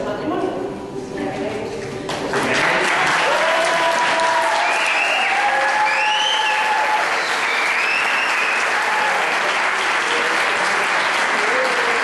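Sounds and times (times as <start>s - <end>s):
guests applauding: 2.2s - 12.0s.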